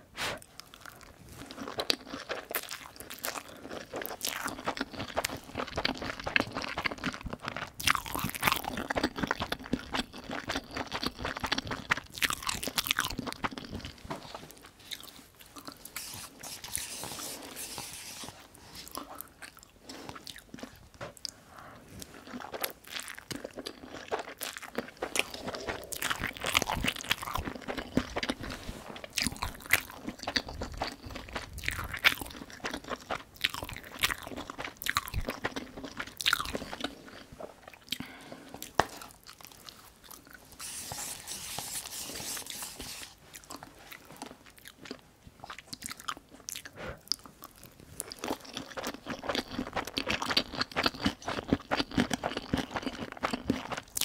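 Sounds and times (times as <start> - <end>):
person chewing crunchy food: 0.1 - 54.0.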